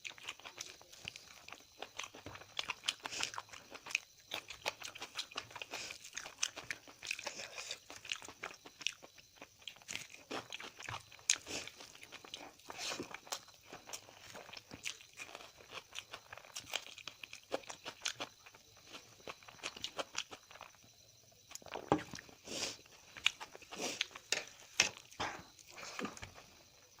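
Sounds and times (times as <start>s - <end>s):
chewing with crunches: 0.0s - 27.0s.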